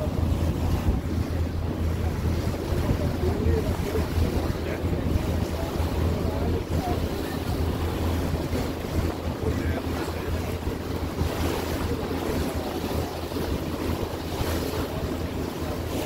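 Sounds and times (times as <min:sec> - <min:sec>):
low engine hum: 0:00.0 - 0:16.0
water rushing along hull: 0:00.0 - 0:16.0
wind buffeting microphone: 0:00.0 - 0:16.0.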